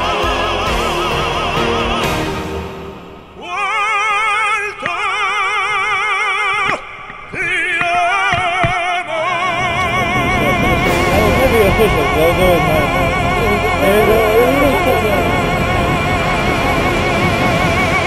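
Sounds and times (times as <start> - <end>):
operatic singing with vibrato: 0.0 - 18.0.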